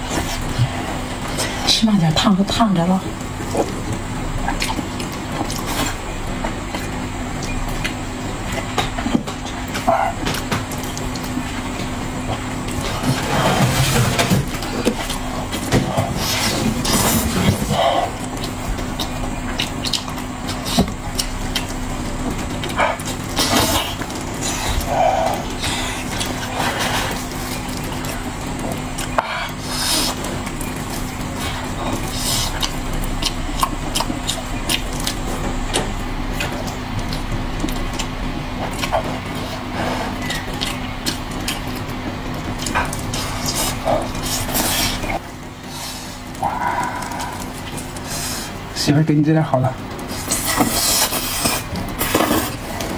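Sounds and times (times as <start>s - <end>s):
steady low hum: 0.0s - 52.9s
chewing and mouth-smacking: 2.9s - 48.8s, 49.8s - 52.9s.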